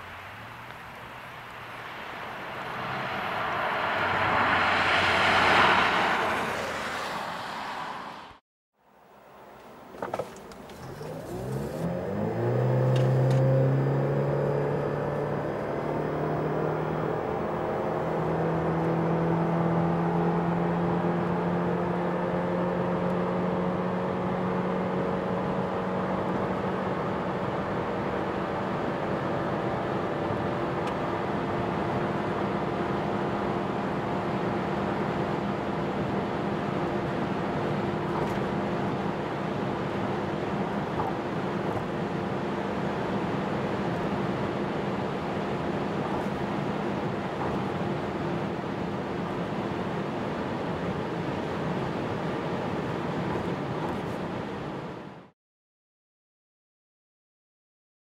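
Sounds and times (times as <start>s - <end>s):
car engine drone: 0.0s - 55.3s.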